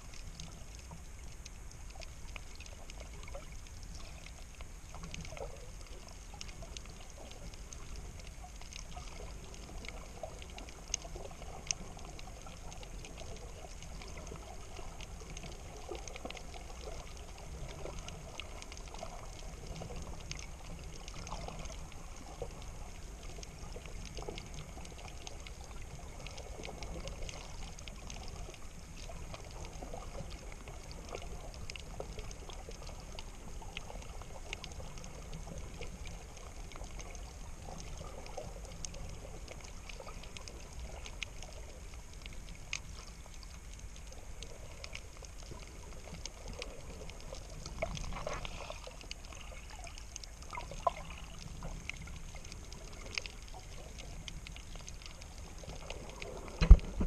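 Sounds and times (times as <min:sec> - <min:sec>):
muffled underwater wash: 0:00.0 - 0:57.0
small crackling clicks: 0:00.0 - 0:57.0.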